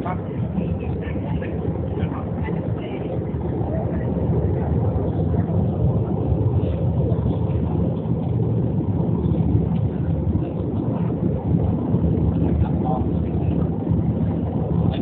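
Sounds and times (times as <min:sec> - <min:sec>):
airliner cabin rumble: 0:00.0 - 0:15.0
faint steady hum: 0:00.0 - 0:15.0.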